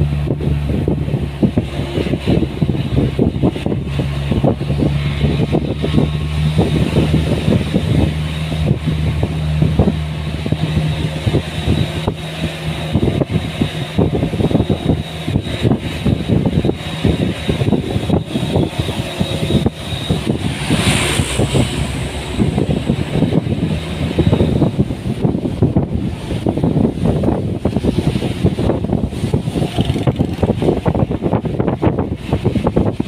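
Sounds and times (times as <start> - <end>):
engine running: 0.0 - 33.0
rough buffeting and rattles: 0.0 - 33.0.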